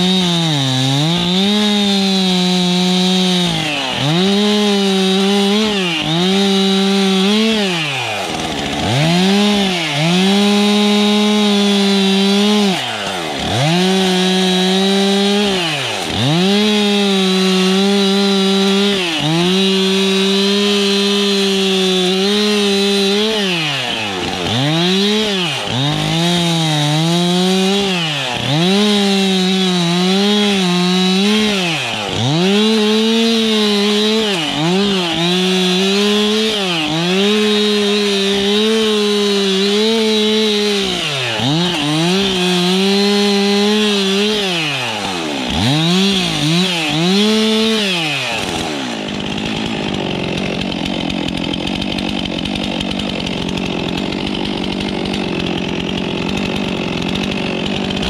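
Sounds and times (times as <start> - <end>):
chainsaw cutting at high revs: 0.0 - 58.0.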